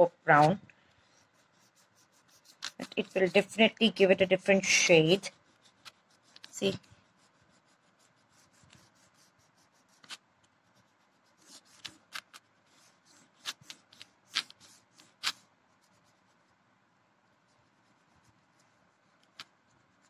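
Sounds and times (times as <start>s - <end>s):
crayon scraping on paper: 0.0s - 16.6s, 17.3s - 20.0s.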